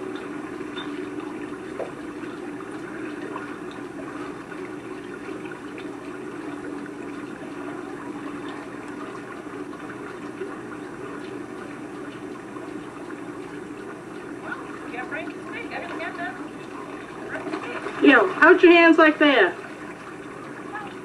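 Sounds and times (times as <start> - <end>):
steady hum: 0.0 - 21.0
water lapping and sloshing: 0.0 - 21.0.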